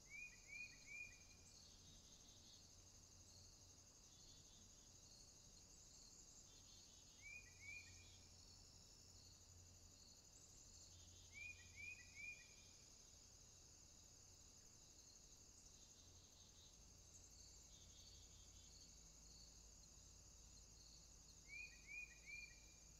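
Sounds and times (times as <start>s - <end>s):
high-pitched insect chorus: 0.0s - 22.9s.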